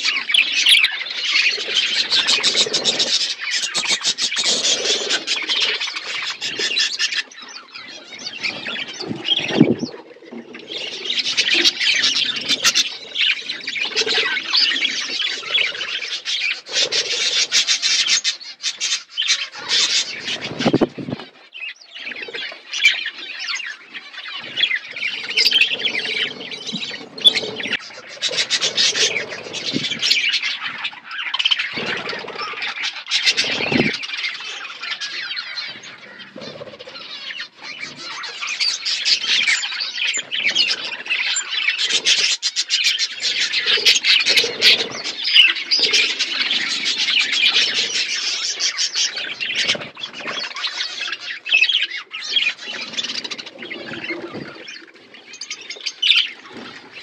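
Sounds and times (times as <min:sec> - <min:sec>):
flock of budgerigars chirping: 0:00.0 - 0:57.0.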